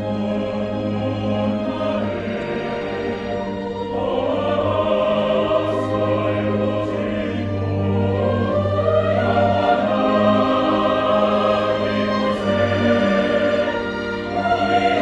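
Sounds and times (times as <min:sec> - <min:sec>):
mixed choir singing: 0:00.0 - 0:15.0
string orchestra chords: 0:00.0 - 0:15.0.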